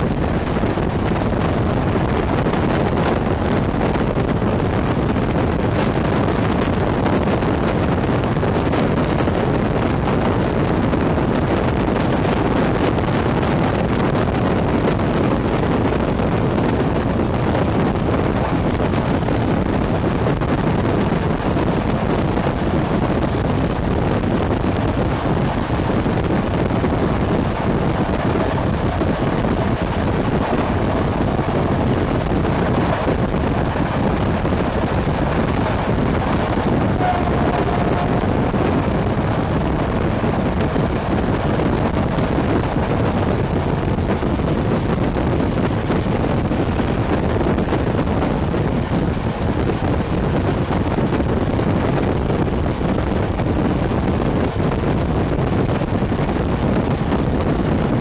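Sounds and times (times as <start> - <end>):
train rumble: 0.0 - 58.0
wind rushing over microphone: 0.0 - 58.0.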